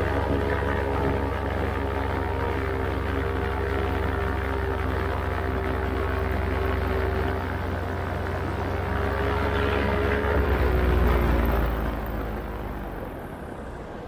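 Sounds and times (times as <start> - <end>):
paramotor engine droning: 0.0 - 14.0.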